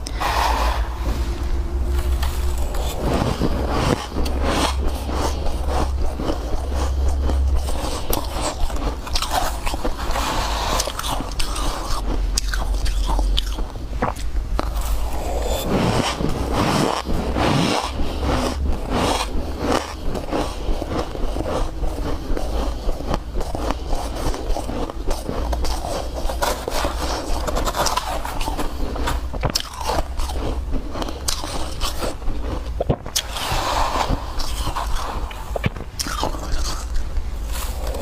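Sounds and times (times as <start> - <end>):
chewing snow crunches: 1.9 - 38.0.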